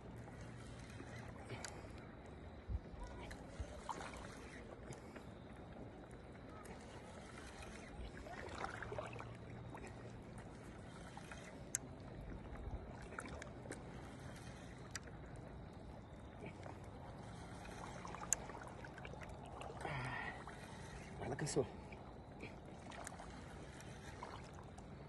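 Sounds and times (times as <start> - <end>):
faint flowing water: 0.0 - 25.0
low steady hum: 0.0 - 25.0.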